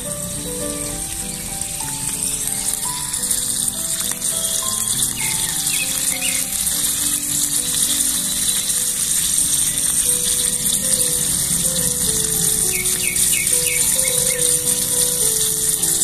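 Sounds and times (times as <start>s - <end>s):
oil sizzling in a pot: 0.0s - 16.0s
slow melodic background music: 0.0s - 16.0s.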